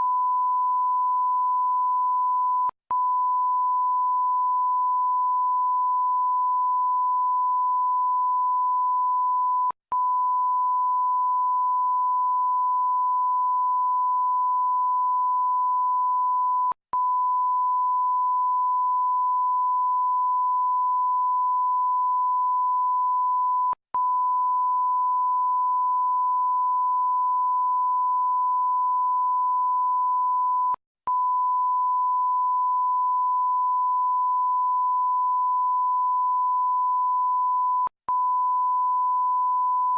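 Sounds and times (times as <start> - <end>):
censor bleep sine tone: 0.0 - 39.9.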